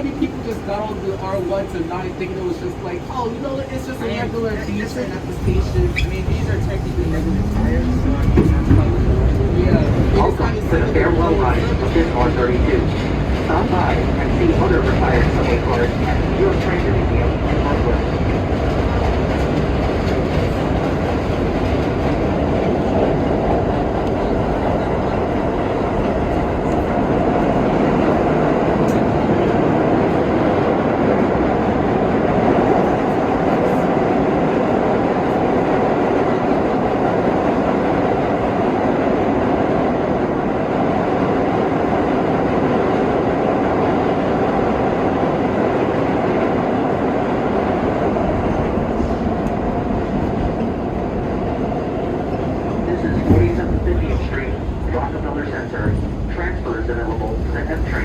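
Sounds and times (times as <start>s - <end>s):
subway wheels rumbling on rails: 0.0s - 58.0s.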